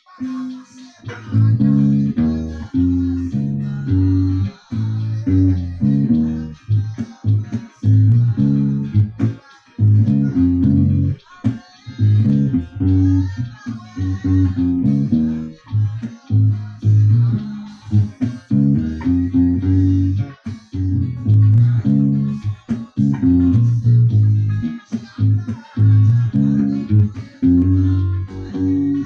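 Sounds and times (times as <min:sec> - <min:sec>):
acoustic bass guitar bass line: 0:01.1 - 0:29.0.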